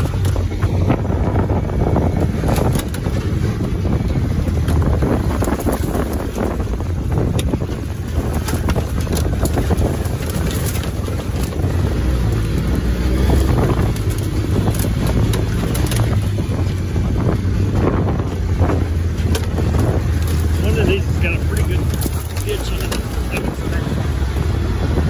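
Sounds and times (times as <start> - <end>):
atv engine running: 0.0 - 25.0
wind buffeting microphone: 0.0 - 25.0.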